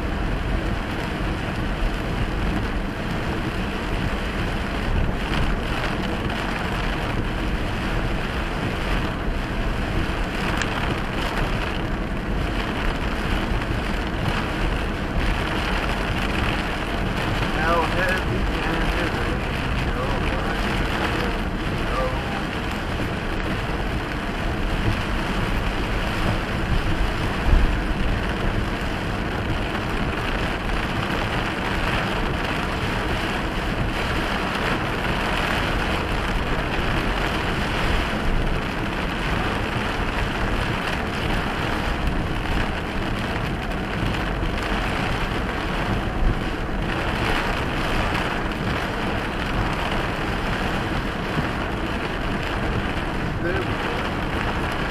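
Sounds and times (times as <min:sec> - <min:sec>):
heavy rain on vehicle roof: 0:00.0 - 0:54.9.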